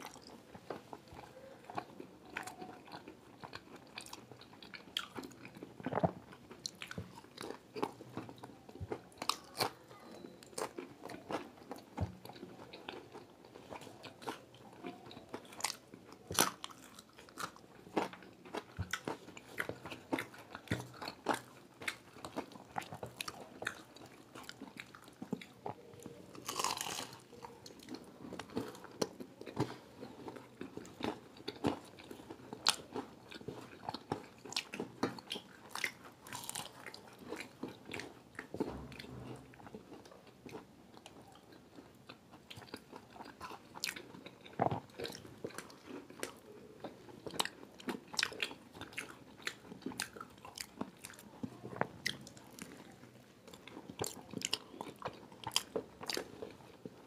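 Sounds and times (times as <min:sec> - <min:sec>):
crunching fried pastry: 0:00.0 - 0:57.0.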